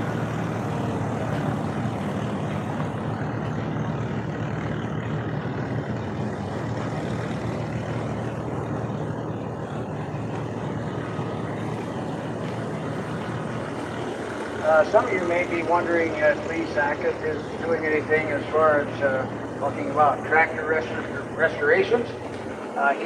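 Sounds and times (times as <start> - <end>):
engine droning: 0.0 - 23.0
outdoor noise: 0.0 - 23.0.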